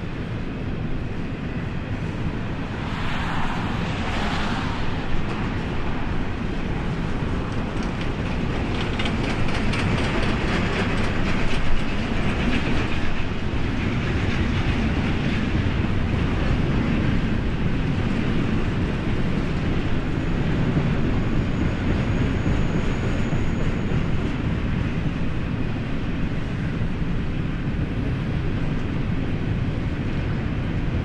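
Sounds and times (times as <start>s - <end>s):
train wheels rumbling on rail: 0.0s - 31.0s
clickety-clack of wheels: 4.4s - 31.0s.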